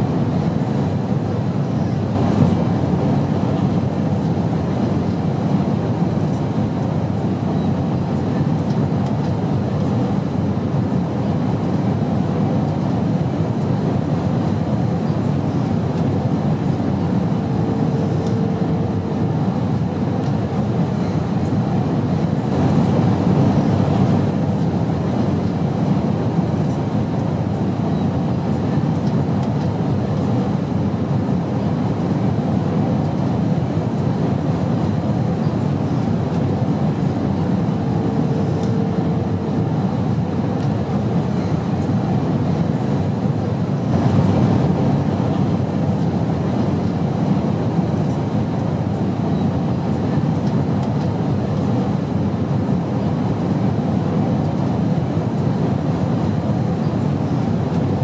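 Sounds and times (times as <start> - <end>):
air noise: 0.0 - 58.0
airplane engine drone: 0.0 - 58.0.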